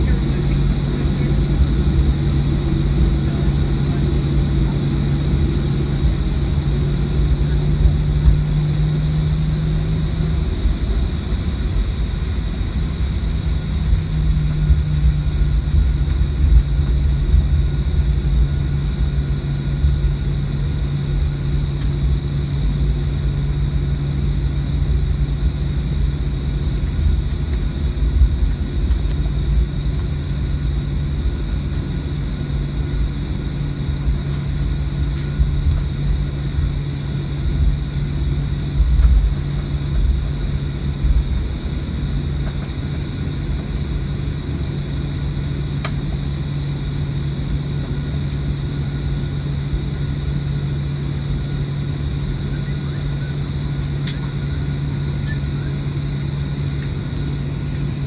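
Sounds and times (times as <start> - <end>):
jet engines idling: 0.0 - 58.0
steady cabin hum: 0.0 - 58.0.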